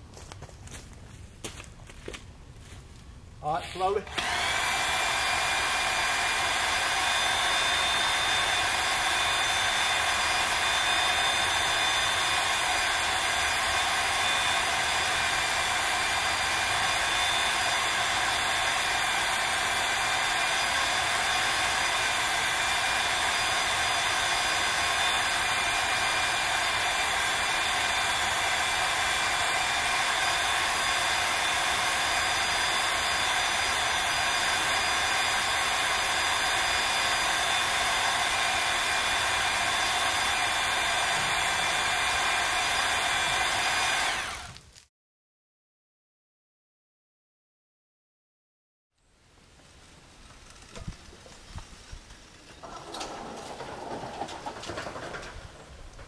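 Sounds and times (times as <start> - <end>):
motorized winch whining: 3.8 - 44.6, 50.2 - 56.0.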